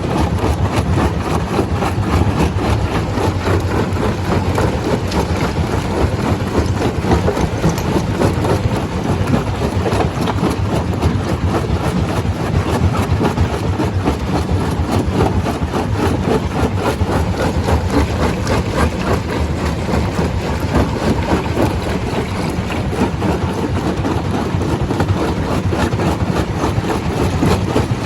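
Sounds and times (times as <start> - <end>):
stone crusher drone: 0.0 - 28.0.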